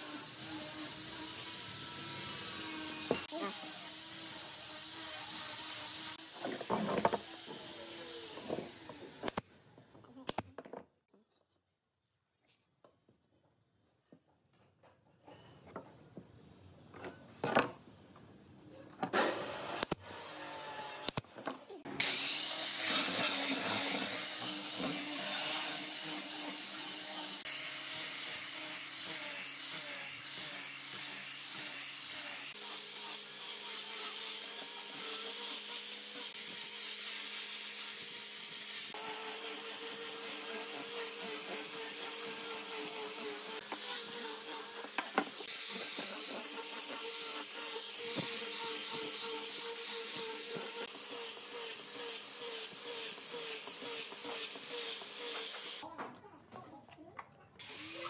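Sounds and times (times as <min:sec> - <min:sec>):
angle grinder sanding wood: 0:00.0 - 0:09.4, 0:19.2 - 0:55.8, 0:57.6 - 0:58.0.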